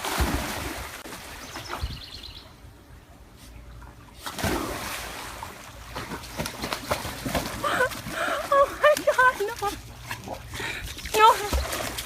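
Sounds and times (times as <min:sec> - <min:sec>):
pool water splashing: 0:00.0 - 0:01.8, 0:02.4 - 0:12.0.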